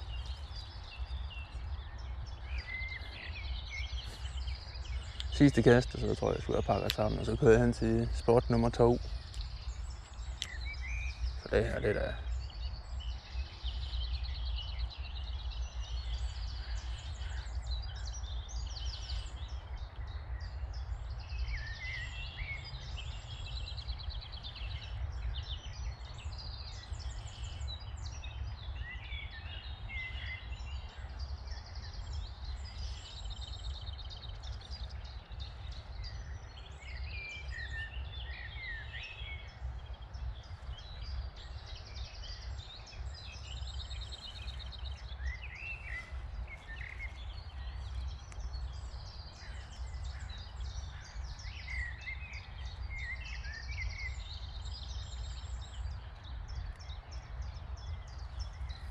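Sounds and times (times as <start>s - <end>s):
songbirds chirping: 0.0s - 58.9s
wind rumbling on microphone: 0.0s - 58.9s.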